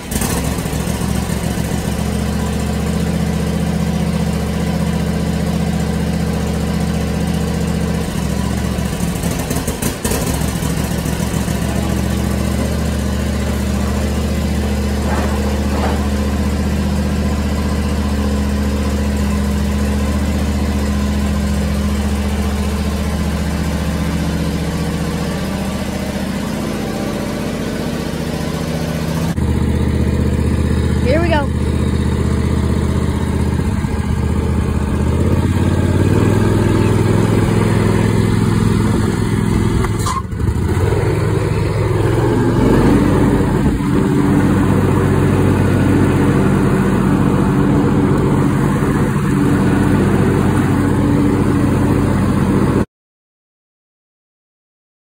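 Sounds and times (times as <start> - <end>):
lawn tractor engine running: 0.0 - 52.8.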